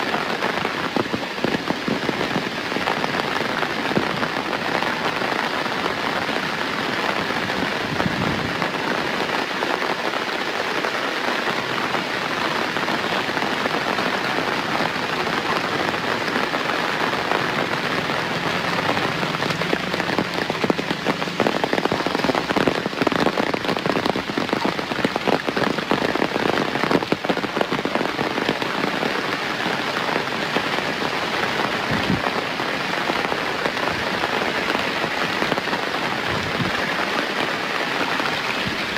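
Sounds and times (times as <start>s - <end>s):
raindrops pattering: 0.0s - 38.9s
steady rain falling: 0.0s - 38.9s.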